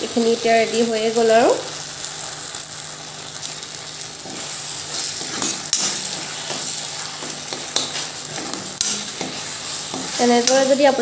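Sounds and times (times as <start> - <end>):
vegetables sizzling in wok: 0.0 - 11.0.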